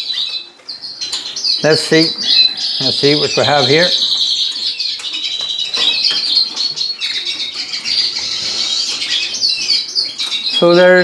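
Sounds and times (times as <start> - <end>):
canaries chirping and singing: 0.0 - 11.0.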